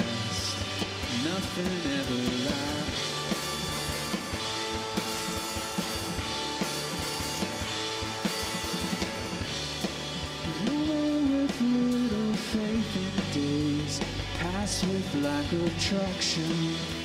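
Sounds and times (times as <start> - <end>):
drum kit beat: 0.0 - 17.0
electric guitars: 0.0 - 17.0.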